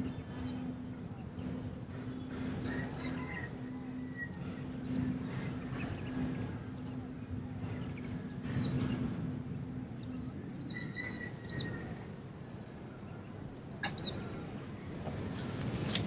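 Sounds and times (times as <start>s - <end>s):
birds chirping: 0.0s - 16.0s
low background noise: 0.0s - 16.0s
low hum: 0.0s - 16.0s.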